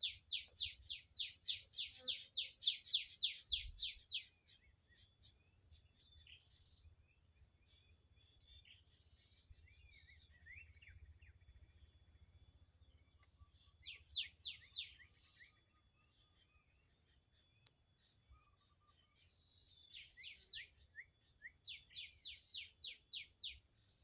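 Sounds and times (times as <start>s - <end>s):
birds calling and chirping: 0.0s - 24.0s.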